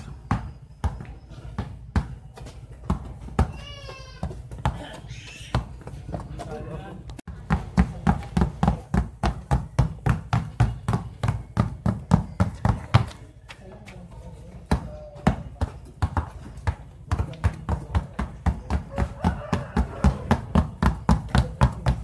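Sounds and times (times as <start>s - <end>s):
basketballs bouncing on asphalt: 0.0s - 22.0s.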